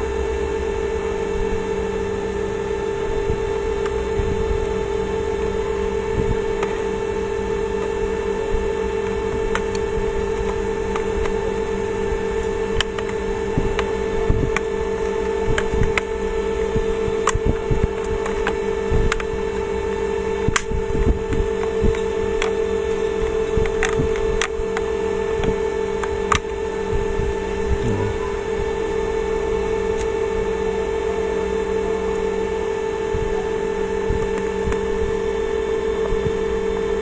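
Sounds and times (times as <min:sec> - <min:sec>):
steady electrical hum: 0:00.0 - 0:37.0.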